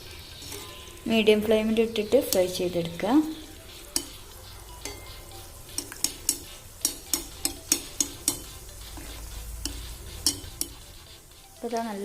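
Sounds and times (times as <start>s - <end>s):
bread frying in hot oil: 0.0s - 12.0s.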